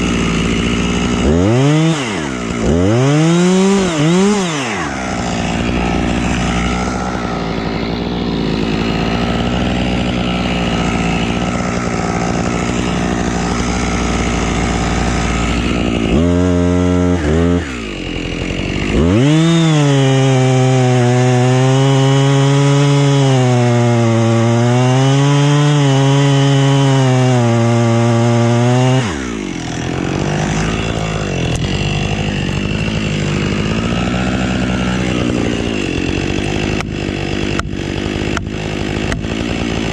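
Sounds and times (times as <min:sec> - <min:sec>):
chainsaw running: 0:00.0 - 0:39.9
chainsaw sawing through wood: 0:00.0 - 0:39.9.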